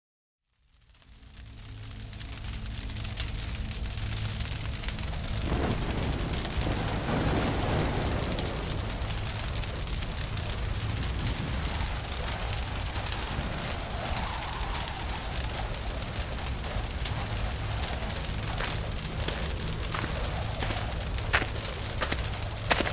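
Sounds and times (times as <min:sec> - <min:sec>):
crackling hissing noise: 0:00.4 - 0:22.9
low rumbling hum: 0:01.1 - 0:22.9.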